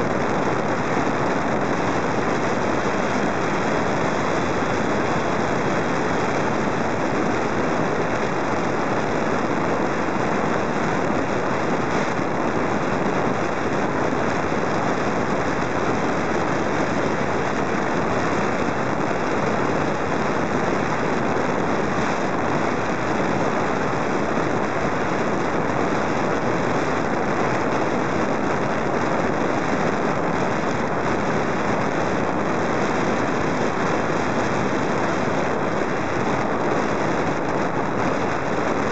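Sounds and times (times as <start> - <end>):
airflow rushing: 0.0 - 38.9
model plane propeller: 0.0 - 38.9.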